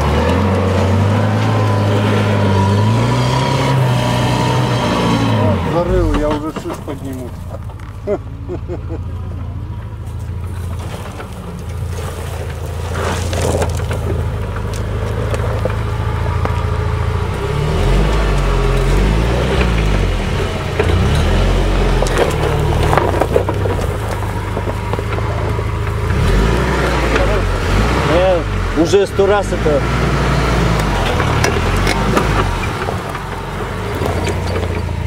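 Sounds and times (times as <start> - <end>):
off-road vehicle engine revving: 0.0 - 35.0
tyres crunching soil and stones: 0.0 - 35.0.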